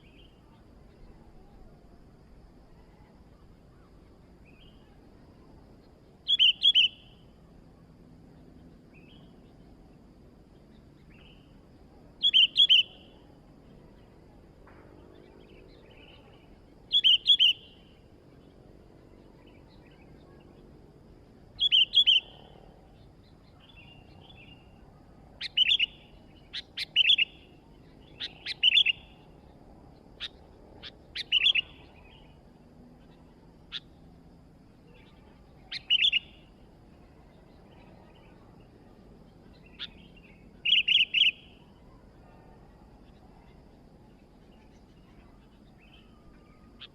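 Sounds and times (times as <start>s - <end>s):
bird chirping: 0.0s - 20.7s, 21.4s - 46.9s.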